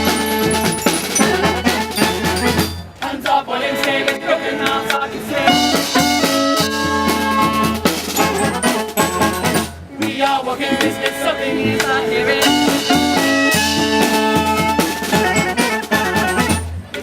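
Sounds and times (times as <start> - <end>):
street brass band playing: 0.0 - 17.0.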